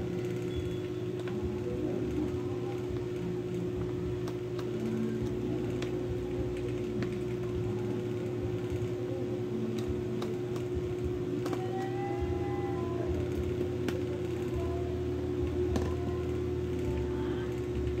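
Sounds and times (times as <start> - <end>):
small motor humming: 0.0 - 18.0.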